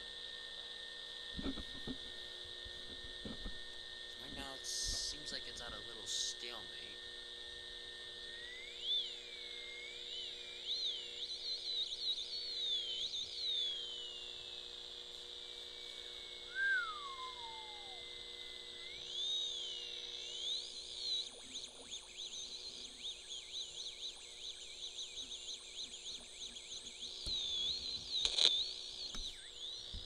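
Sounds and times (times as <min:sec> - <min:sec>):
steady hum: 0:00.0 - 0:30.0
warbling electronic whistling tone: 0:03.2 - 0:30.0.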